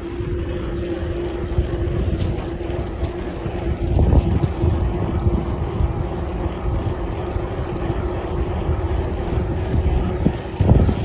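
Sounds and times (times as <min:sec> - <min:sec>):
bicycle tyre rumble: 0:00.0 - 0:11.0
light rattling clicks: 0:00.0 - 0:11.0
steady hum: 0:00.0 - 0:11.0
wind rushing over microphone: 0:00.0 - 0:11.0.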